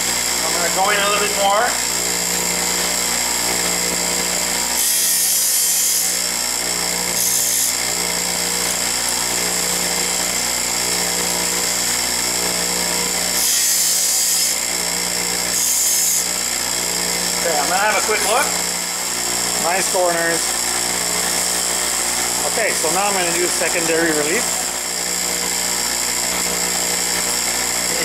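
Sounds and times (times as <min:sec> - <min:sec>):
bench grinder running: 0:00.0 - 0:28.0
drill bit grinding hiss: 0:00.0 - 0:28.0.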